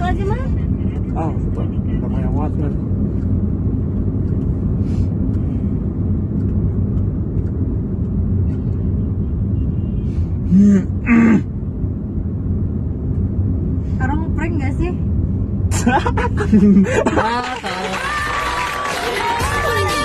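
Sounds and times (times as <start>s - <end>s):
car engine rumble and road noise: 0.0s - 20.0s.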